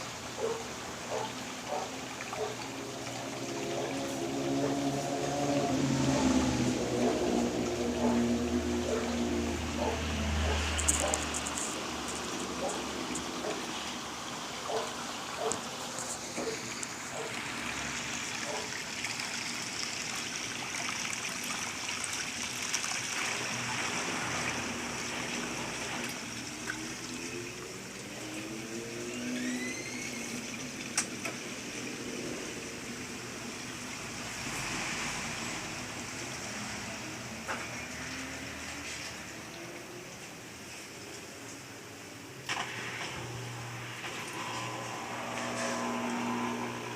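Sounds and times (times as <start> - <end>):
water splashing in washing machine: 0.0 - 41.4.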